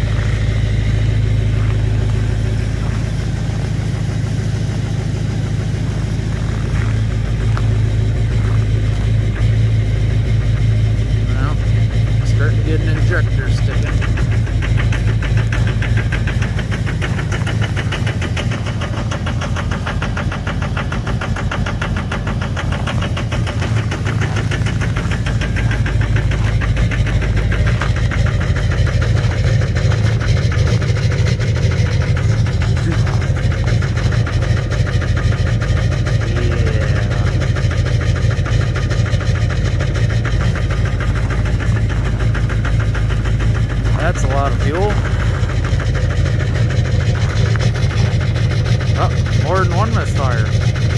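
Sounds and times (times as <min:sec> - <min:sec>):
diesel engine idling rough: 0:00.0 - 0:50.9.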